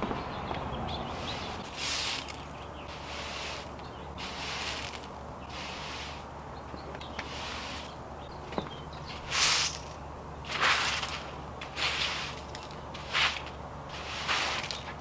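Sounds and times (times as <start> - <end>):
broom sweeping concrete: 1.0 - 6.4, 7.1 - 8.0, 9.1 - 15.0.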